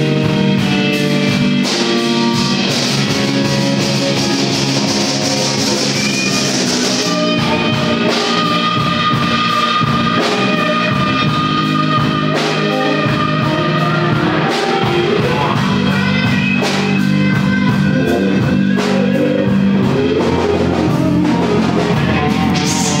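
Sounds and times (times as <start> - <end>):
guitar: 0.0 - 23.0
live band playing: 0.0 - 23.0.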